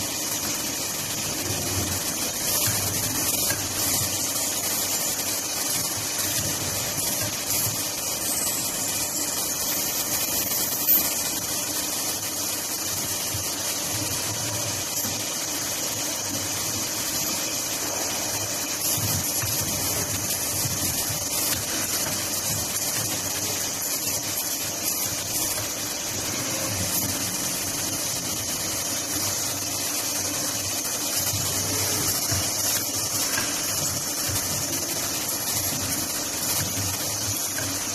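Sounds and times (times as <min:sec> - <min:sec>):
cutting machine hissing: 0:00.0 - 0:37.9.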